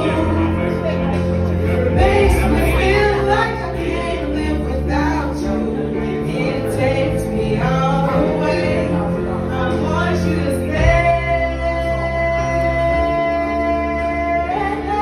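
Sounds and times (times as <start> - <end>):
backing track music: 0.0 - 15.0
women singing karaoke: 0.0 - 15.0.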